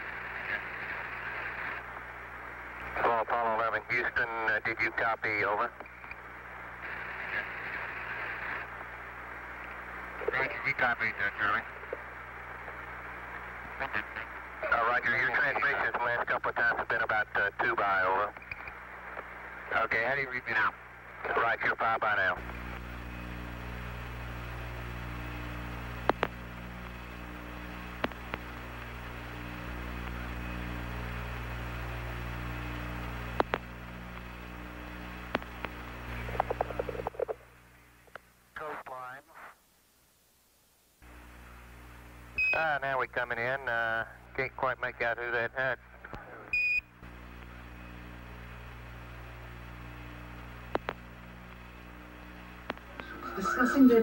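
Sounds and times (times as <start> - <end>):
radio electrical hum with hiss: 0.0 - 54.0.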